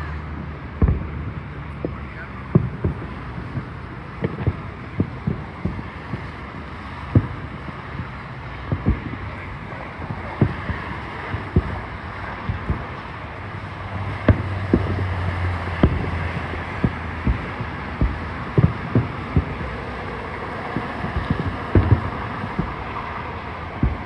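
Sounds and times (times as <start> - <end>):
fireworks booming: 0.0 - 24.0
steady background rush: 0.0 - 24.0.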